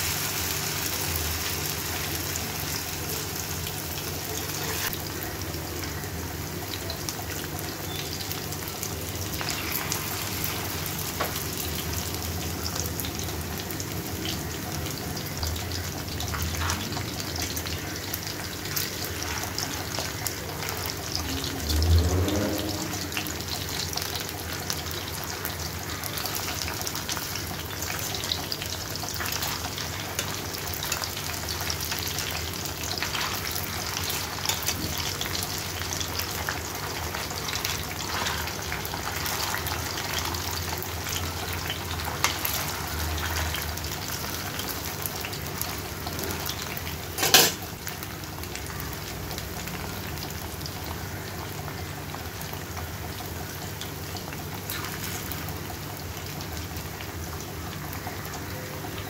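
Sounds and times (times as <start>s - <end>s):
kebabs sizzling in oil: 0.0s - 59.0s.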